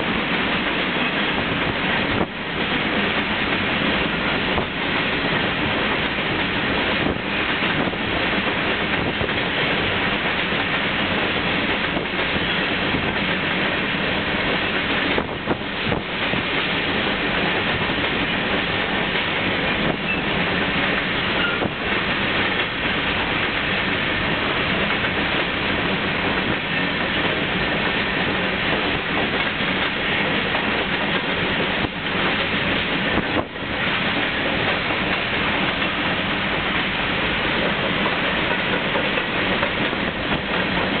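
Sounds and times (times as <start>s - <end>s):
freight train wheels rolling: 0.0s - 41.0s.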